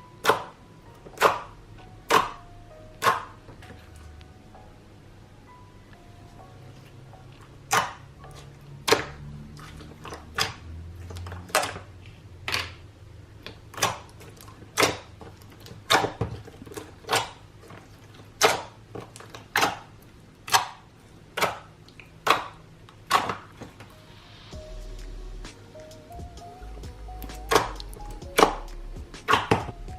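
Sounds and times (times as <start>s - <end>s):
slime worked by hand: 0.0s - 4.3s, 6.7s - 25.9s, 26.6s - 29.9s.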